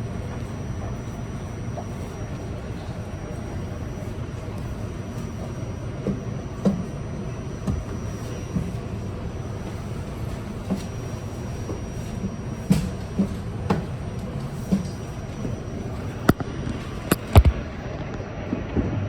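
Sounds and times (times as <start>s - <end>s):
subway car rumbling: 0.0s - 19.0s.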